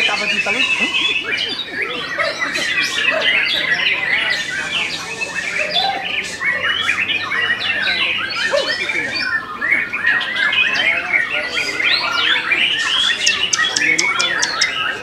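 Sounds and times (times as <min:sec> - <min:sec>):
birds singing whistles and trills: 0:00.0 - 0:15.0.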